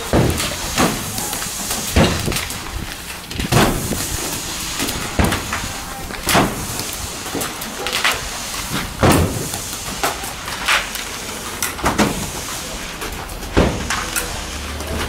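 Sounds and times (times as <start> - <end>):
heavy bags thumping: 0.0 - 12.4, 13.1 - 15.0
steady background hiss: 0.0 - 15.0.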